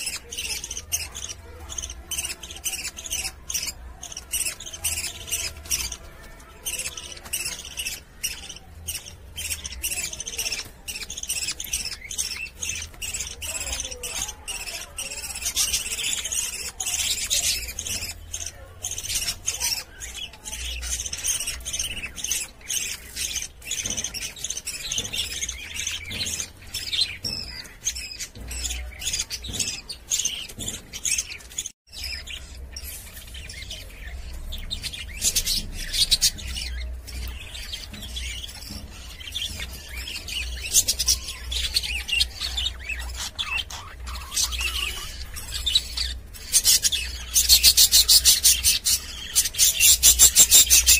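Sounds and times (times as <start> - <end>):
budgerigars chattering and chirping: 0.0 - 50.9.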